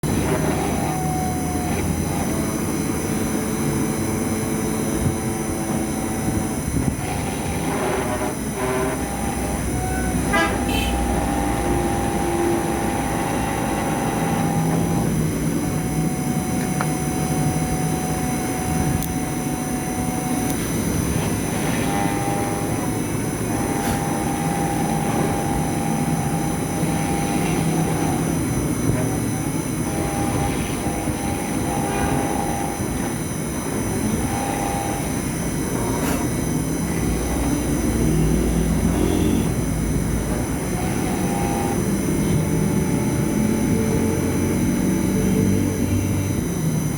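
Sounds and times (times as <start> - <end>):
motors whirring: 0.0 - 46.8
cnc router spindle whine: 0.0 - 46.9.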